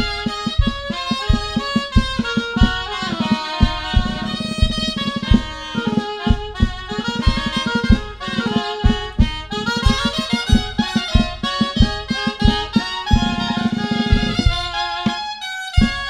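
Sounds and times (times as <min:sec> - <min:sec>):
drum march beat: 0:00.0 - 0:16.0
shawms playing a melody: 0:00.0 - 0:16.0.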